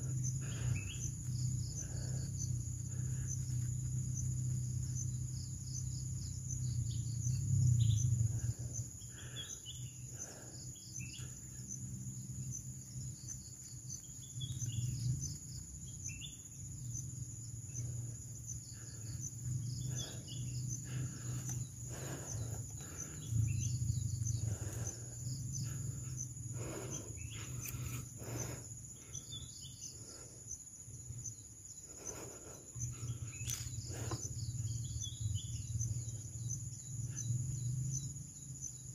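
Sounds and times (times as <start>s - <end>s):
birds chirping: 0.0s - 38.9s
insects trilling: 0.0s - 38.9s.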